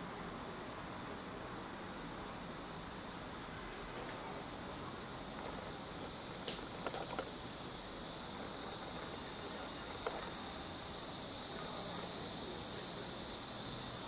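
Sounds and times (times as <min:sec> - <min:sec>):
high-pitched background hiss: 0:00.0 - 0:14.0.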